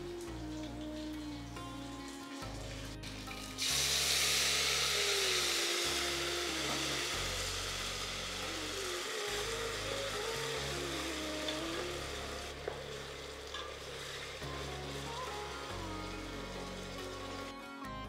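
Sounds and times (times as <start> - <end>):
background music: 0.0 - 18.0
paste sizzling in hot oil: 0.2 - 17.6.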